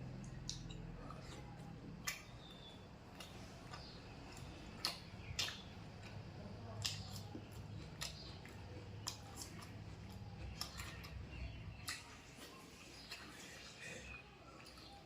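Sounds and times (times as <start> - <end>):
person chewing with mouth clicks: 0.0 - 15.0.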